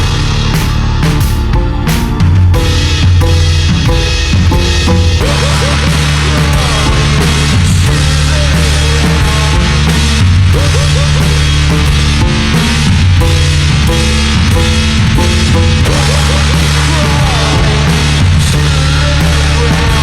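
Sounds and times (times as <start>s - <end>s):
synth or guitar lines: 0.0s - 19.8s
bass notes: 0.0s - 20.0s
drum kit beat: 0.0s - 20.0s.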